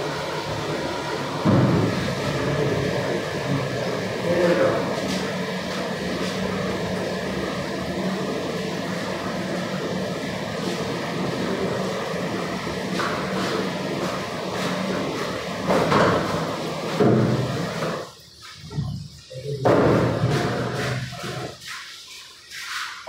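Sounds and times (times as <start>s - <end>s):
gas burners roaring: 0.0s - 21.7s.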